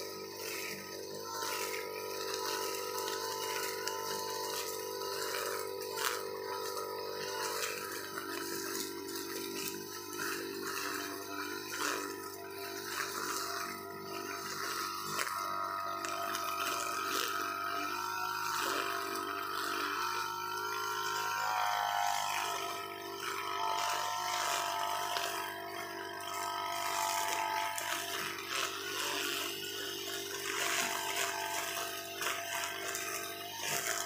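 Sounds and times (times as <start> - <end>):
brushcutter engine running: 0.0 - 34.0.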